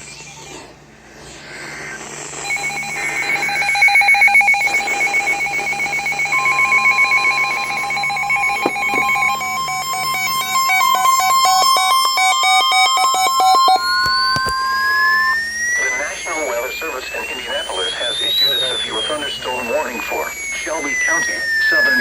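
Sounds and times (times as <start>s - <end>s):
rapid electronic beeping: 2.4s - 22.0s
steady electronic tone: 2.4s - 22.0s
warbling data burst: 2.4s - 22.0s.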